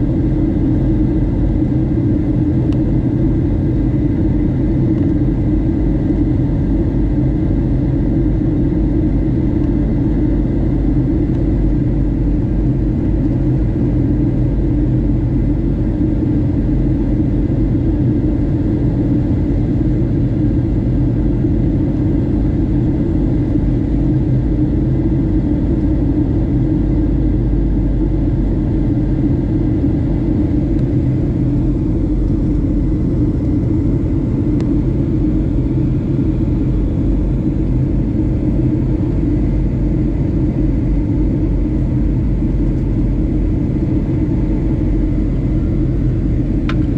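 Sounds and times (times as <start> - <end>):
airflow and engine rumble: 0.0 - 46.9.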